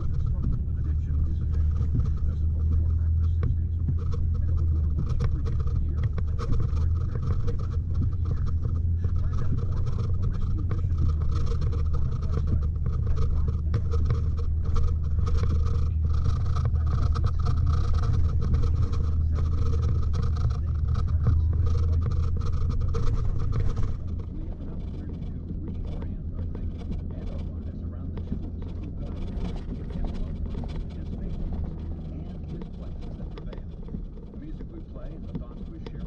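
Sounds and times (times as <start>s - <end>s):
knocks and scrapes: 0.0s - 36.0s
truck engine drone: 0.0s - 36.0s.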